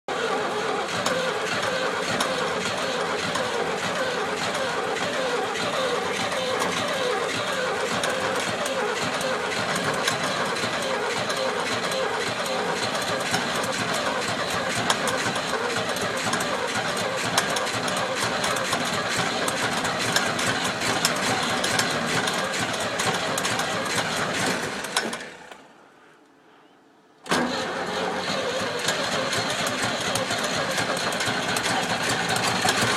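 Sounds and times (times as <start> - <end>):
crawler tractor engine running: 0.1 - 25.9, 27.2 - 32.9.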